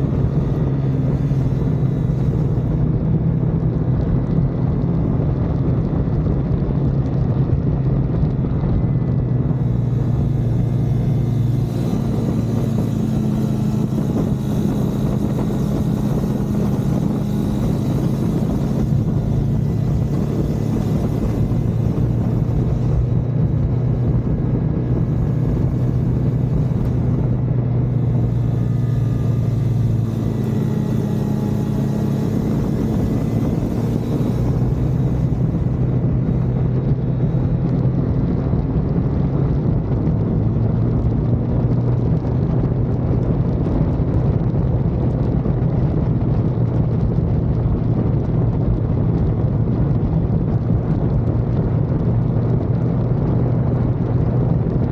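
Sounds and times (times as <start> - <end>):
car engine running under load: 0.0 - 54.9.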